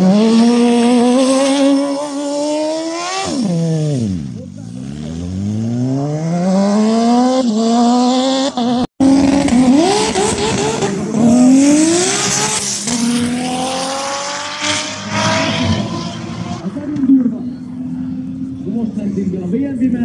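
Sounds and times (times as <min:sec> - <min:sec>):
go-kart engine revving: 0:00.0 - 0:19.4
car engines revving and accelerating: 0:00.0 - 0:20.0.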